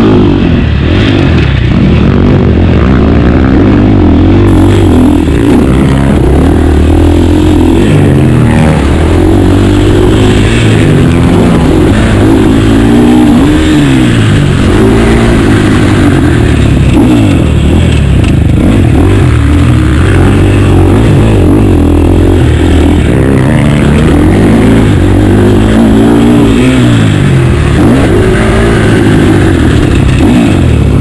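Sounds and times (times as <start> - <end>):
motocross engine revving hard: 0.0 - 31.0.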